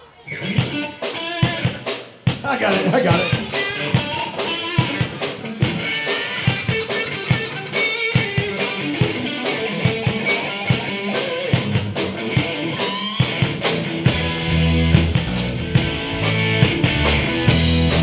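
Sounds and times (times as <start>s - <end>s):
electric guitar riffing: 0.0s - 18.0s
drum kit: 0.4s - 18.0s
heavy bass notes: 1.6s - 18.0s.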